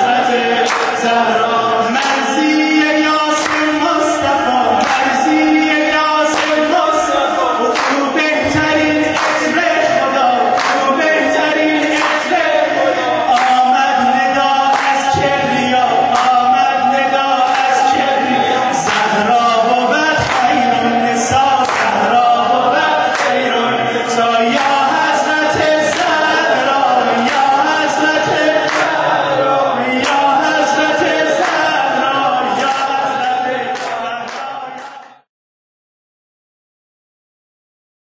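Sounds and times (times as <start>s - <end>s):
men chanting in unison: 0.0s - 35.3s.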